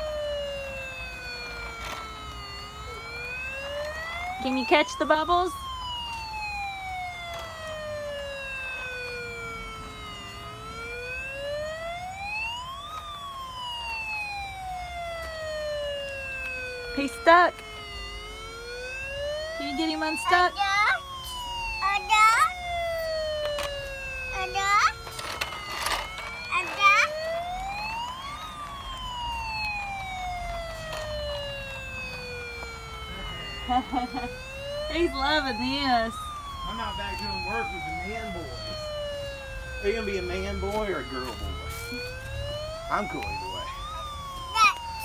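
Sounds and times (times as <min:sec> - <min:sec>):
toy electronic siren wailing: 0:00.0 - 0:45.0.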